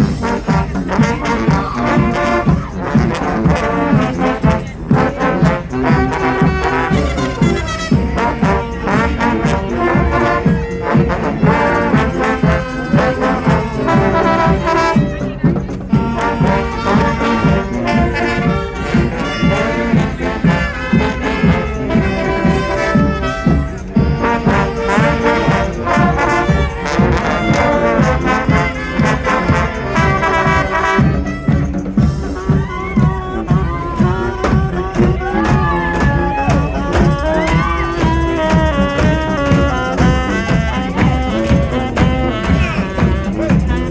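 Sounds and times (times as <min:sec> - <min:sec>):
brass band playing: 0:00.0 - 0:43.9.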